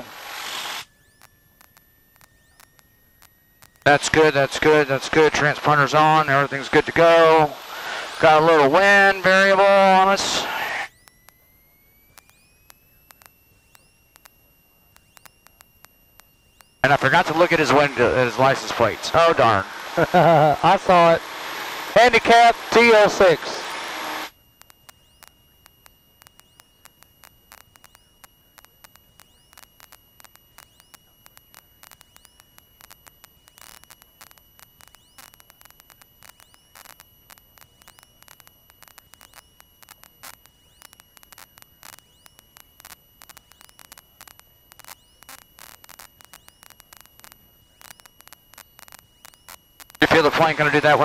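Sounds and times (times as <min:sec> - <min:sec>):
crackling clicks: 0:00.0 - 0:51.0
high-pitched whine: 0:00.0 - 0:51.0
static hiss: 0:00.0 - 0:51.0.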